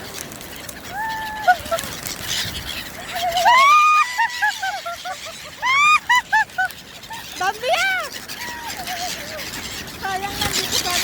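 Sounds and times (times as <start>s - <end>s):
seagulls calling: 0.0s - 11.0s.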